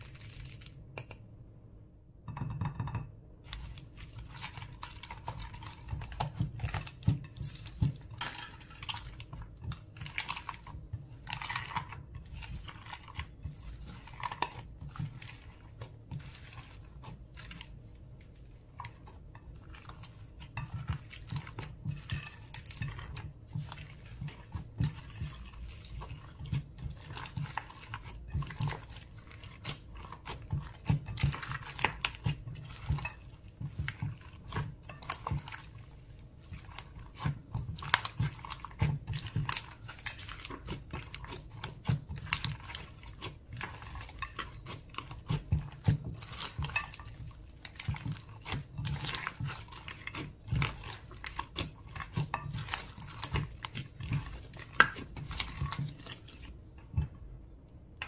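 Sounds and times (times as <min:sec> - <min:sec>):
slime squishing with sticky pops: 0:03.4 - 0:57.3.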